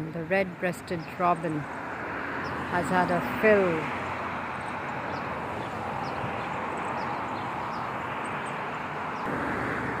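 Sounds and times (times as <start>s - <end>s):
distant engine rumble: 0.0s - 10.0s.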